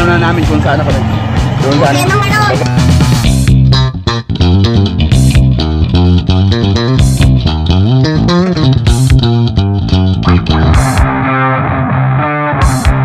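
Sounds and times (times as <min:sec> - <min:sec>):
guitar and bass music with beat: 0:00.0 - 0:13.0.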